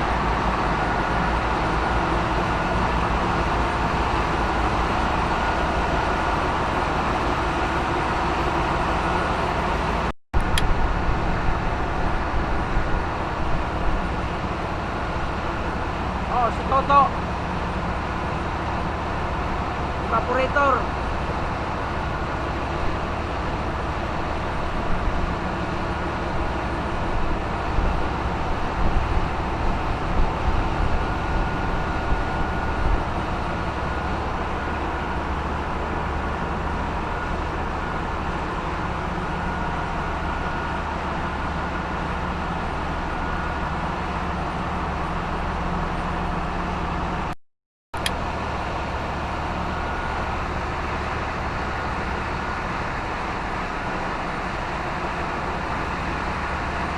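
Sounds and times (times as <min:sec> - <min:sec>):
engine room machinery hum: 0:00.0 - 0:47.4, 0:48.0 - 0:56.9.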